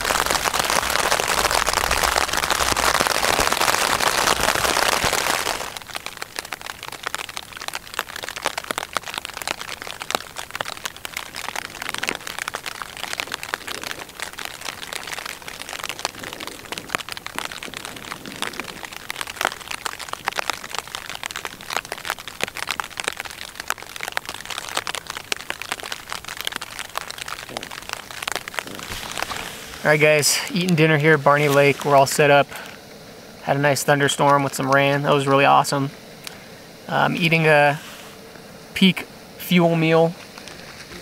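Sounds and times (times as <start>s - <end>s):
steady rain patter: 0.0s - 41.0s.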